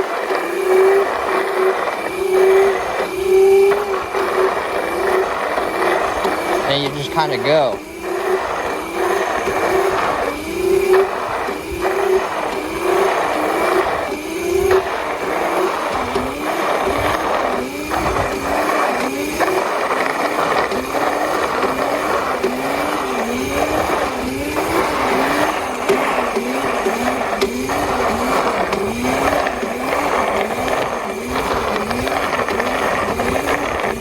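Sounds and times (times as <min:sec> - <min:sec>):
electric dirt bike motor whining: 0:00.0 - 0:34.0
steady rushing noise: 0:00.0 - 0:34.0.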